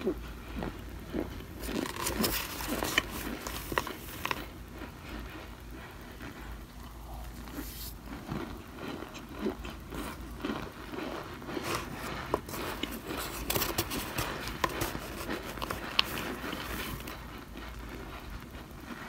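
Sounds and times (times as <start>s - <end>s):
cornstarch crunching and crackling: 0.0s - 19.0s.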